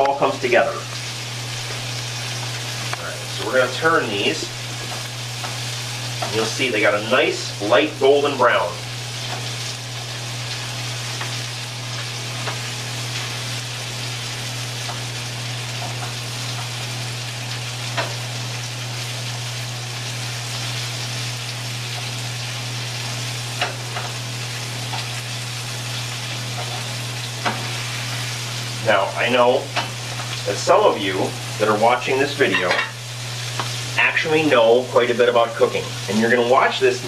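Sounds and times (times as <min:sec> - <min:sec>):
scallops sizzling in pan: 0:00.0 - 0:37.0.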